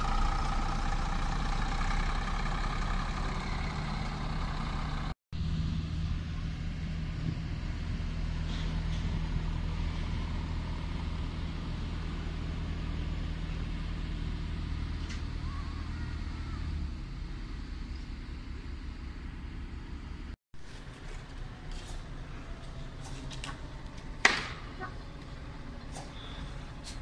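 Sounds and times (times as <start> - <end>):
bus diesel engine running: 0.0 - 27.0
bus engine low hum: 0.0 - 27.0.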